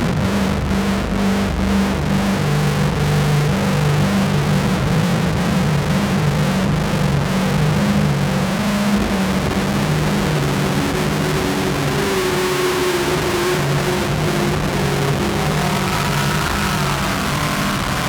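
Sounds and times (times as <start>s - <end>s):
harsh synth noise drone: 0.0s - 18.0s
low buzz stepping between pitches: 0.0s - 18.0s.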